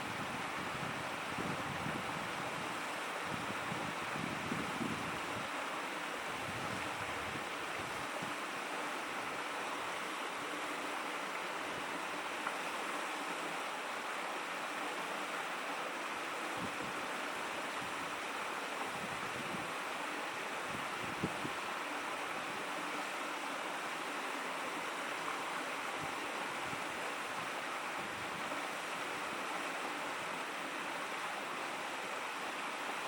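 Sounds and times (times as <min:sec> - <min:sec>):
stream babbling over stones: 0:00.0 - 0:33.0.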